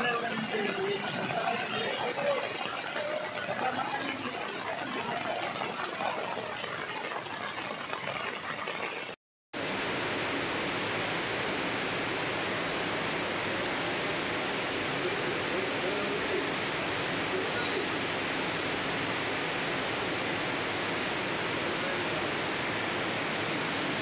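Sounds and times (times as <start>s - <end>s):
floodwater rushing: 0.0s - 24.0s
heavy rain: 0.0s - 24.0s.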